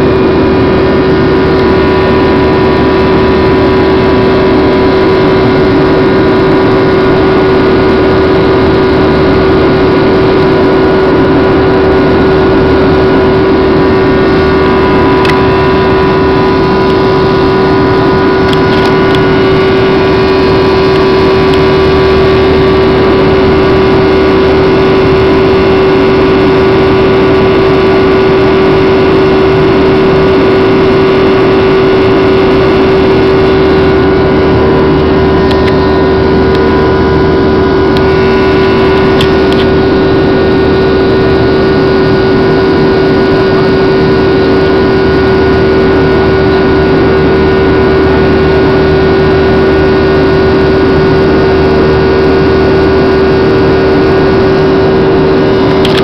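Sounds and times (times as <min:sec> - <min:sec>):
airliner engines droning: 0:00.0 - 0:56.0
constant cabin hum: 0:00.0 - 0:56.0.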